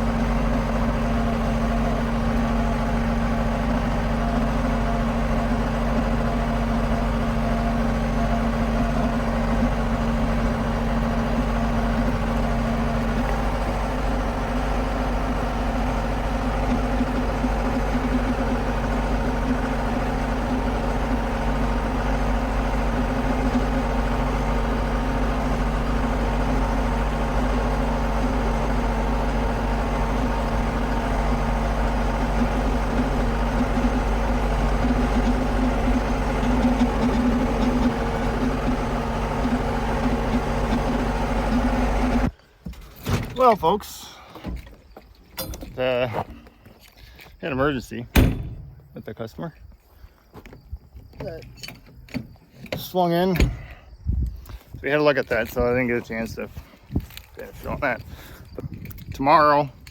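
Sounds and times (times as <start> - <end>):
tractor diesel engine idling: 0.0 - 42.7, 43.4 - 50.4, 51.2 - 59.9.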